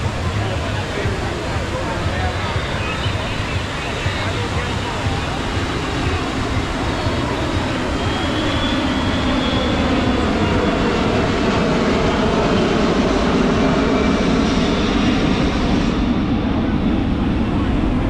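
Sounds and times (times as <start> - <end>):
faint high jet whine: 0.0 - 18.0
jet aircraft passing overhead: 0.0 - 18.0.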